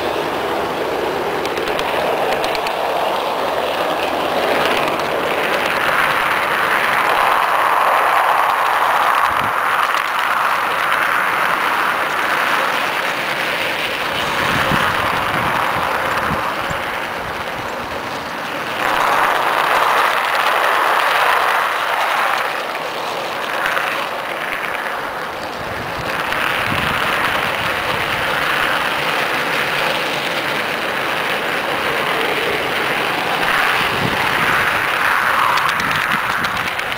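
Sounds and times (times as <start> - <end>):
model train wheels rumbling: 0.0 - 36.9.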